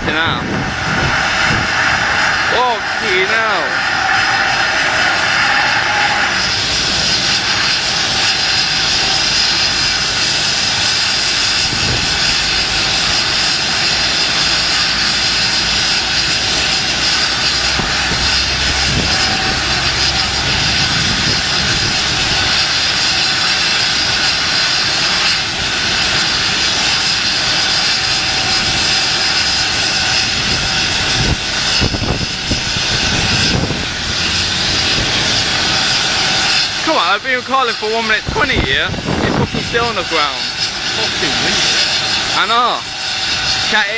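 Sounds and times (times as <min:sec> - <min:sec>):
helicopter engine and rotor: 0:00.0 - 0:43.9
wind blasting microphone: 0:00.0 - 0:43.9.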